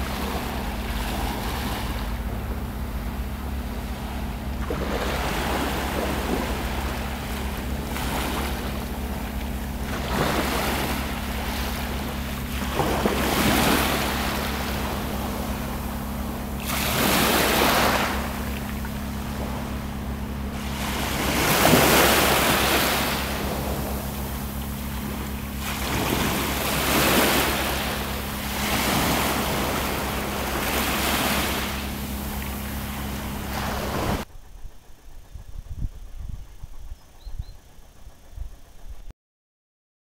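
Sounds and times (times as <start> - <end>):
small sea waves breaking: 0.0 - 34.2.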